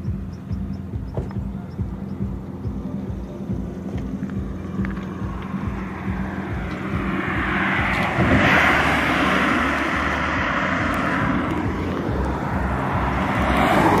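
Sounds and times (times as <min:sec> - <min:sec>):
cars passing on road: 0:00.0 - 0:14.0.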